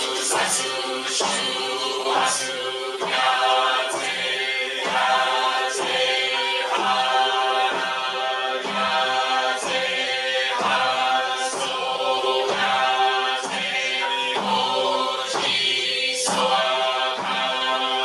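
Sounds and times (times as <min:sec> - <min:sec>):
group chanting in unison: 0:00.0 - 0:18.0.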